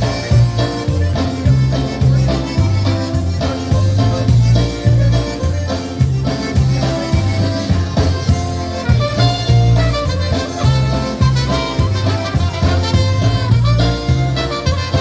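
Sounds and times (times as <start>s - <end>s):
polka band playing: 0.0s - 15.0s.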